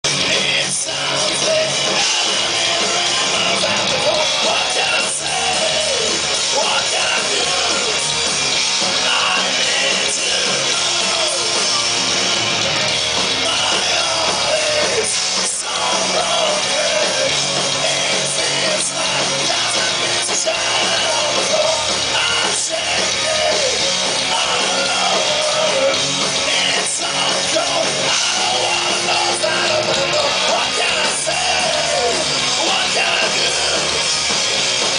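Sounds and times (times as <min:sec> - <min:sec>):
singer singing: 0:00.0 - 0:34.2
punk rock band playing: 0:00.0 - 0:34.9.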